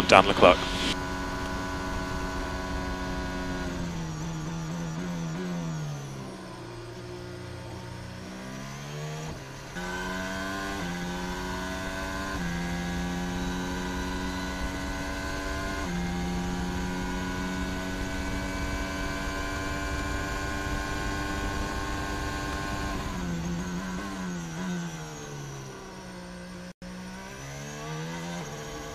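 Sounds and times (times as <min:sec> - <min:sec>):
race car engine accelerating: 0:00.0 - 0:28.9.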